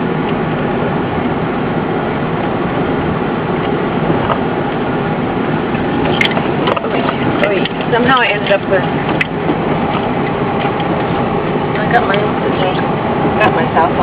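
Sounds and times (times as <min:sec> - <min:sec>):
van engine and tyres on dirt: 0:00.0 - 0:14.0.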